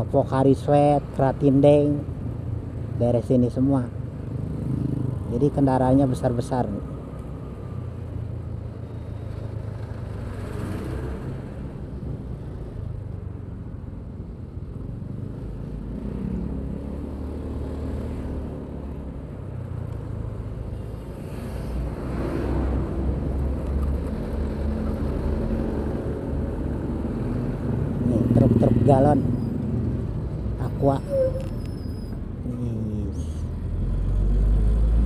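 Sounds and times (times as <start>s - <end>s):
road and wind noise: 0.0s - 35.0s.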